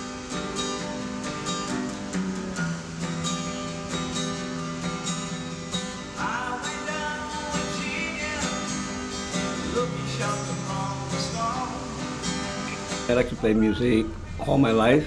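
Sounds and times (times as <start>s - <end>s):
acoustic guitar strumming: 0.0s - 15.0s
higher guitar melody line: 0.0s - 15.0s.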